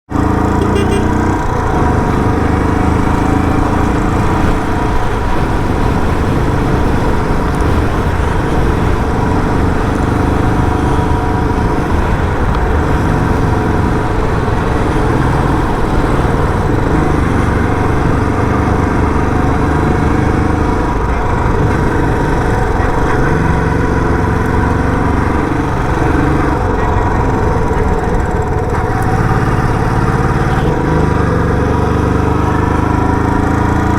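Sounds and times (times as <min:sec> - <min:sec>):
motorcycle engine revving while riding: 0:00.1 - 0:33.9.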